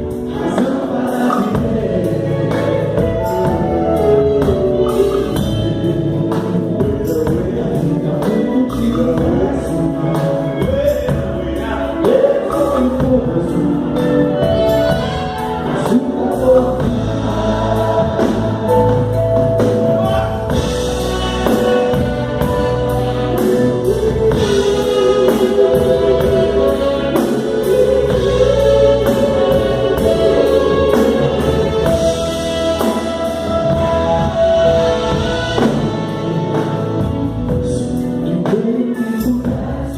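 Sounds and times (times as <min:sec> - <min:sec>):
live band music: 0:00.0 - 0:39.9
steady drum beat: 0:00.0 - 0:39.9
voices singing together: 0:00.0 - 0:39.9.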